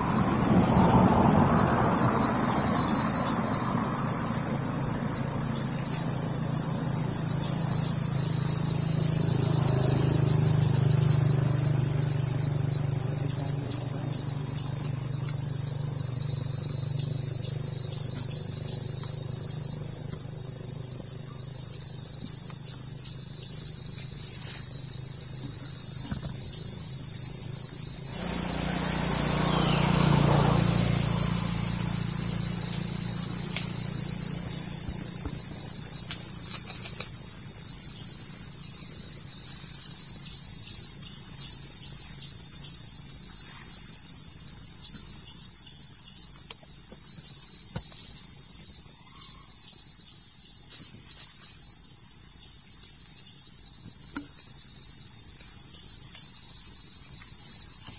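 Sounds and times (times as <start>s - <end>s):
insects chorus: 0.0s - 57.9s.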